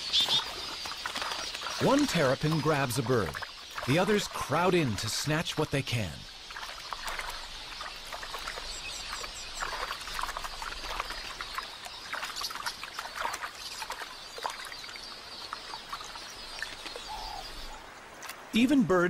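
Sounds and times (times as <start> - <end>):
water splashes: 0.0 - 19.0.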